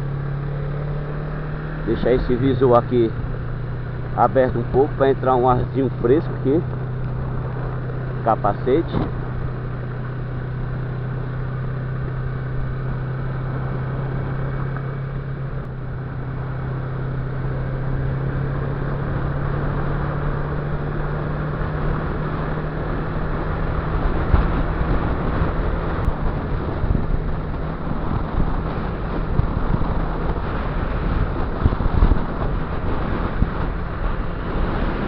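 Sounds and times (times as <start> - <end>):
motorcycle engine running: 0.0 - 35.0
wind rushing over microphone: 0.0 - 35.0.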